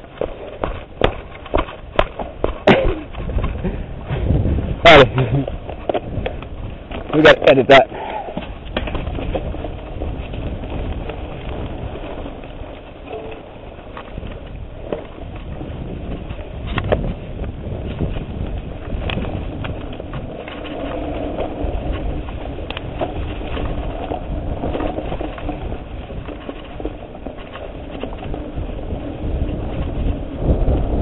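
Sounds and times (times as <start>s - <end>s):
bike rattles and knocks: 0.0s - 31.0s
bike tyres rumbling: 0.0s - 31.0s
wind on microphone: 0.0s - 31.0s.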